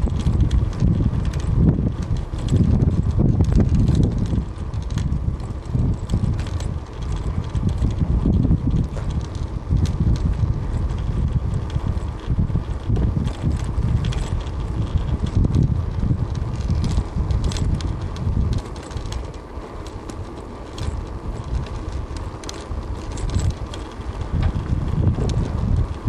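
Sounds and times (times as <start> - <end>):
light clicks and rattles: 0.0 - 26.0
wind buffeting microphone: 0.0 - 26.0.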